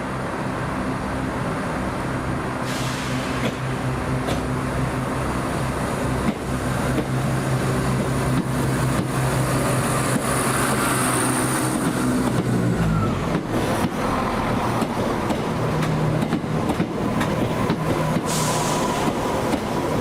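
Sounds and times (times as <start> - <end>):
diesel train engines humming: 0.0 - 20.0.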